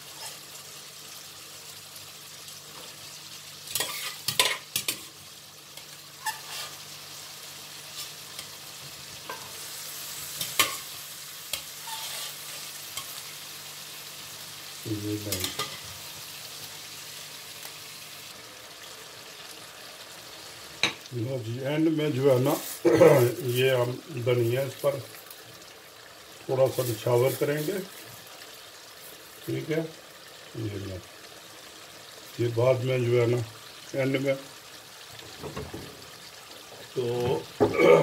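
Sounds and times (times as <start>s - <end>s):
sauce sizzling in a pan: 0.0s - 38.0s.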